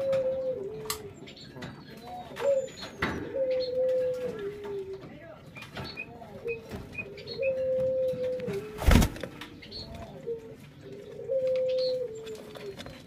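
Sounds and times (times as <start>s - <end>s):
dove cooing: 0.0s - 1.2s, 2.1s - 5.1s, 6.3s - 13.0s.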